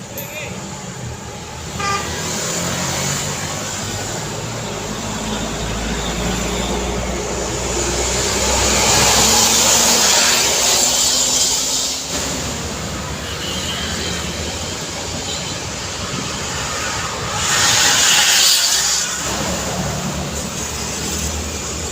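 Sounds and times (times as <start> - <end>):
vehicle engines rumbling: 0.0 - 21.9.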